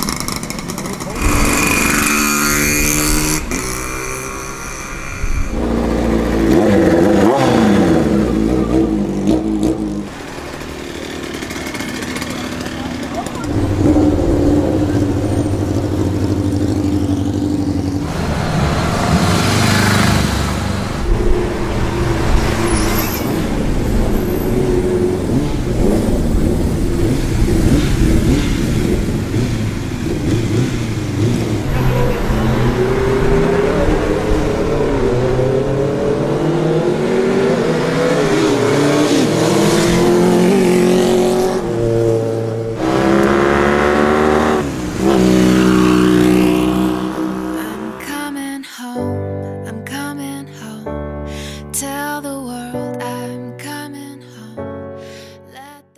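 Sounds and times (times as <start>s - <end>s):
vehicle engines revving: 0.0s - 48.4s.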